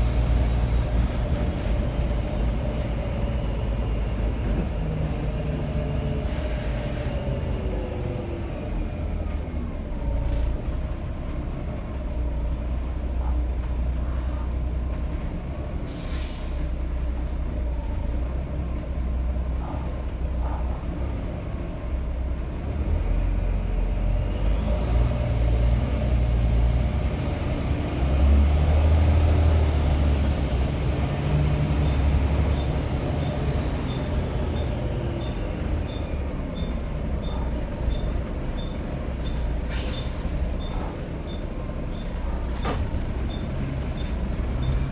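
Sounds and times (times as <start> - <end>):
bus diesel engine pulling: 0.0 - 44.9.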